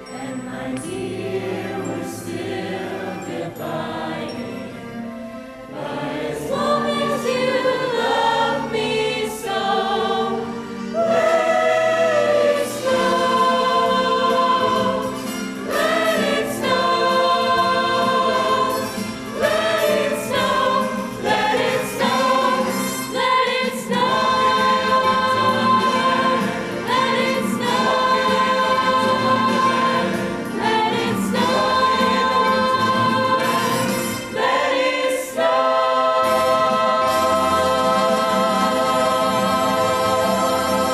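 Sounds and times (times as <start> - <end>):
choir singing in harmony: 0.0 - 40.9.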